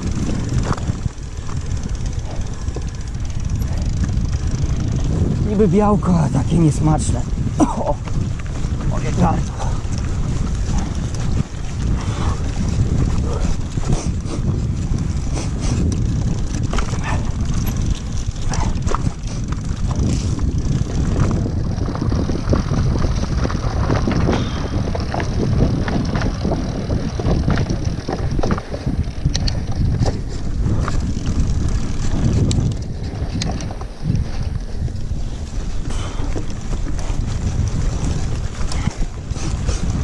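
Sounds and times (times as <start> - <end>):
bike knocks and rattles: 0.0 - 40.0
bike tyres on dry sand: 0.0 - 40.0
wind rumbling on microphone: 0.0 - 40.0.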